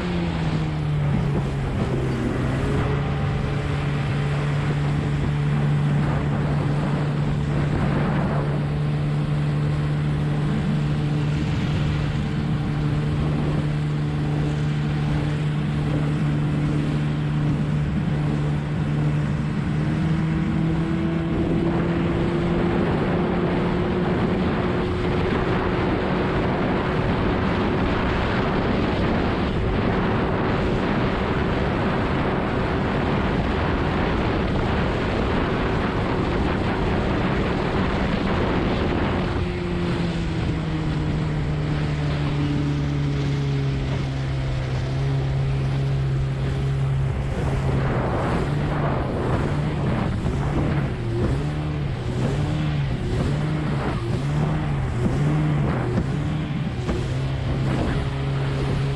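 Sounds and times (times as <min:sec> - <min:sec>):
outboard motor running: 0:00.0 - 0:58.9.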